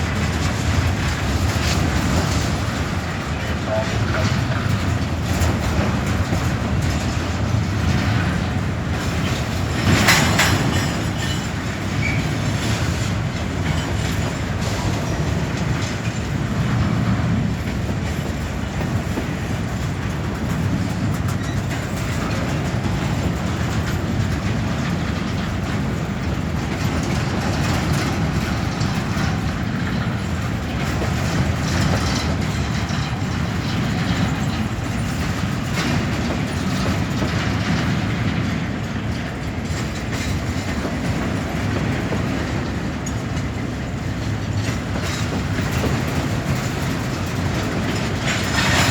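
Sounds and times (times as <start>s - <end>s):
train wheels clacking on rails: 0.0s - 48.9s.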